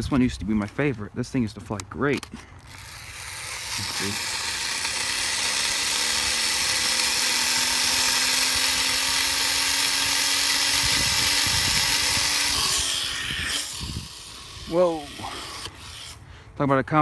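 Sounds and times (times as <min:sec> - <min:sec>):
toy plane propeller whirring: 0:02.2 - 0:16.2.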